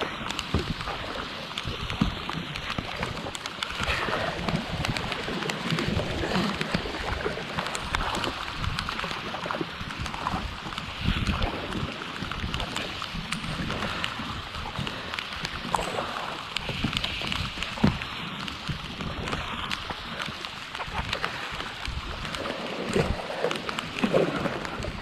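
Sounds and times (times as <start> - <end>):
heavy rain on water: 0.0 - 25.0
wind rumble on microphone: 0.0 - 25.0.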